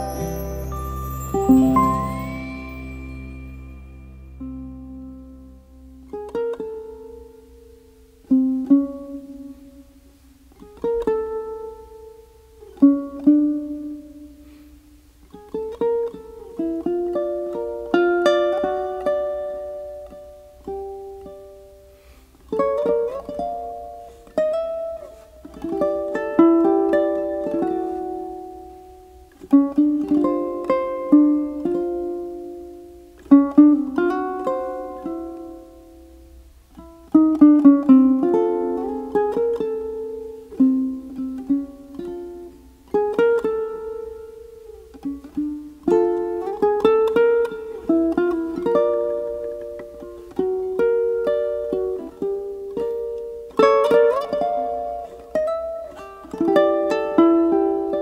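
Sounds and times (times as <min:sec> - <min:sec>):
plucked string instrument music: 0:00.0 - 0:58.0.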